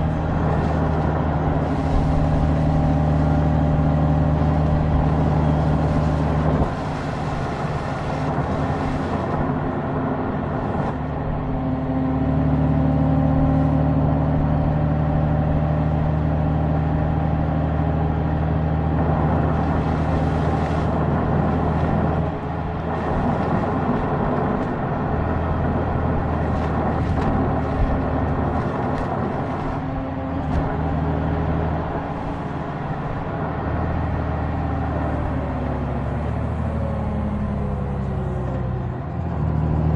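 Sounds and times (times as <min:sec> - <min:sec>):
wind noise: 0:00.0 - 0:37.7
road noise: 0:00.0 - 0:39.9.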